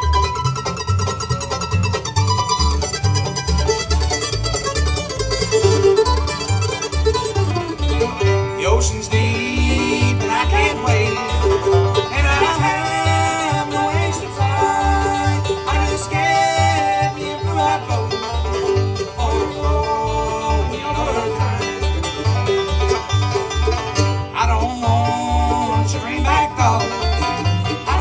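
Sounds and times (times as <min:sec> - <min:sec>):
acoustic guitar: 0:00.0 - 0:28.0
banjo: 0:00.0 - 0:28.0
mandolin: 0:00.0 - 0:28.0
upright bass plucking: 0:00.0 - 0:28.0.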